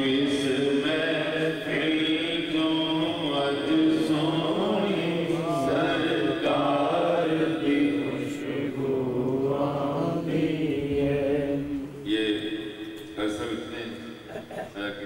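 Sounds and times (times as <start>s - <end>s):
man chanting devotional verse: 0.0s - 15.0s.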